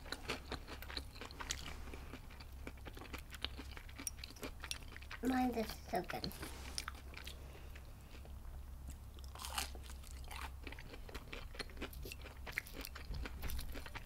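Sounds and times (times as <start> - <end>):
crunchy chewing of fried shrimp: 0.0 - 5.4, 6.3 - 14.0.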